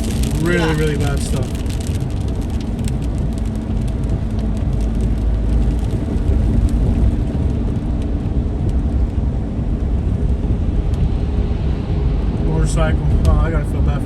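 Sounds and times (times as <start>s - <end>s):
car road and engine rumble: 0.0s - 14.0s
rain hitting car: 0.0s - 14.0s.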